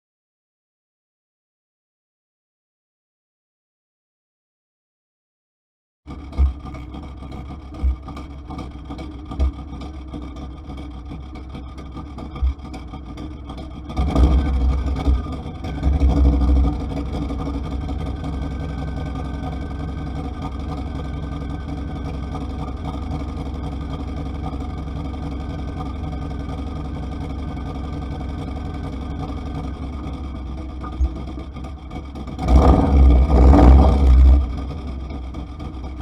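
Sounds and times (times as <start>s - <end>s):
engine and road noise: 6.1s - 36.0s.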